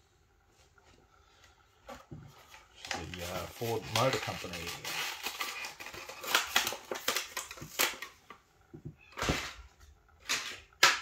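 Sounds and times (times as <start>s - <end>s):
crackling handling noise: 0.4s - 11.0s.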